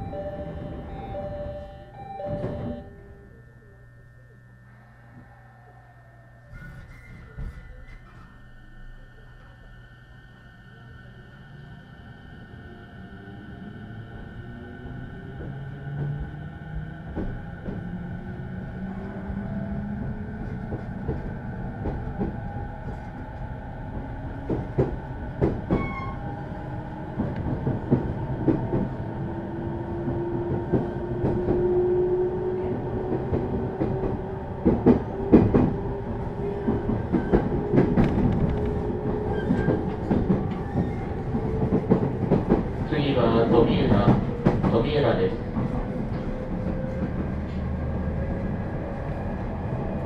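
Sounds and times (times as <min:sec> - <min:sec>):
train running rumble: 0:06.8 - 0:50.0.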